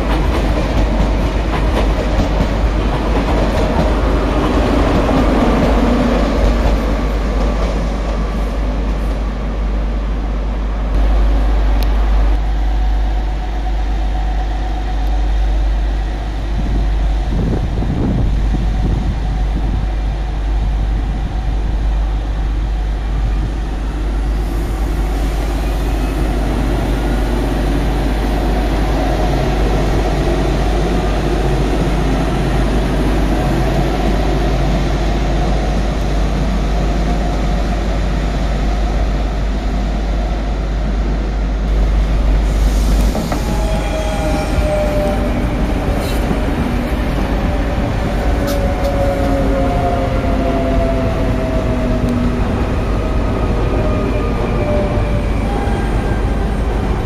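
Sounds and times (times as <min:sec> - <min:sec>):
electric train approaching: 0:00.0 - 0:57.0
train wheels rumbling on rail: 0:00.0 - 0:57.0.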